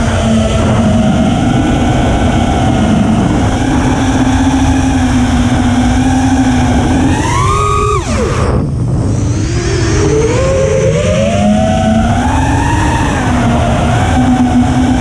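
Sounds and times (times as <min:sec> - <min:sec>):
drone motors whining: 0:00.0 - 0:15.0
wind rush on microphone: 0:00.0 - 0:15.0.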